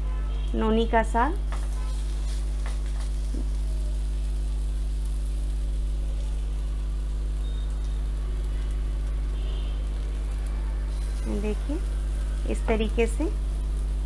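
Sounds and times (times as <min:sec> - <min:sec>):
fritters sizzling in oil: 0:00.0 - 0:14.0
steady low hum: 0:01.0 - 0:14.0.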